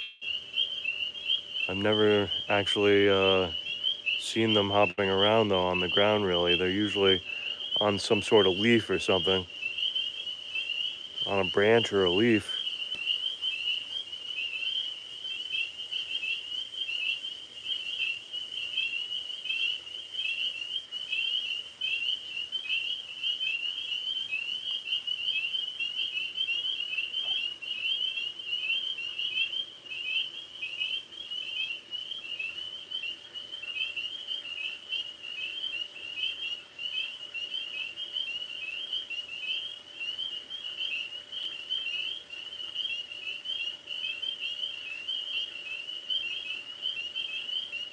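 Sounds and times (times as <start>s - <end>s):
tree frogs chirping: 0.0s - 47.9s.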